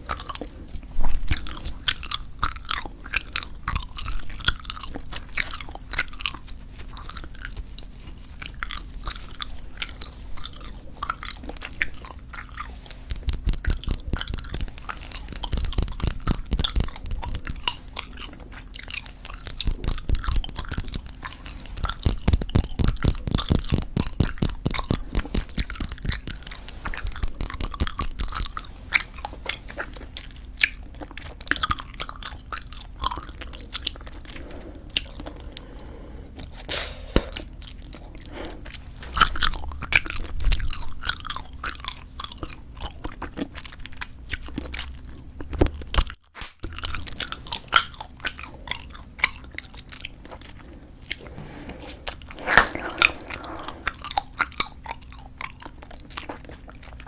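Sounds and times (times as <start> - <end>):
chewing bubblegum: 0.0 - 57.0.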